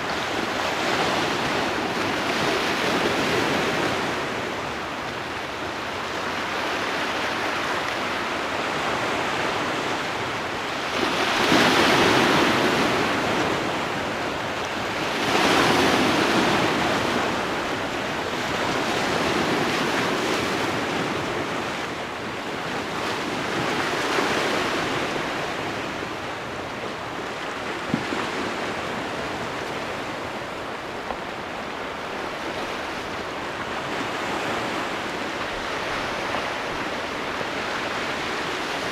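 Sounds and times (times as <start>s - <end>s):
sea waves breaking: 0.0s - 38.9s.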